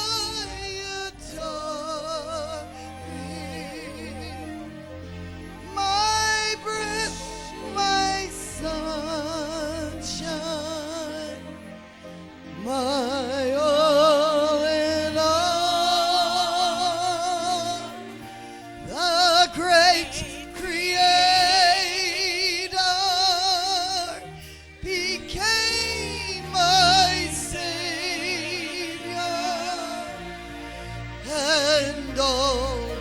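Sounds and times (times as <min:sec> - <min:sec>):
person singing with vibrato: 0:00.0 - 0:33.0
sustained accompaniment: 0:00.0 - 0:33.0.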